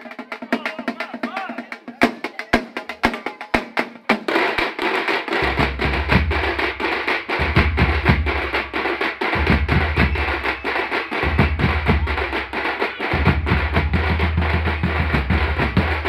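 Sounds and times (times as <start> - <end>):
drum band playing: 0.0 - 16.0.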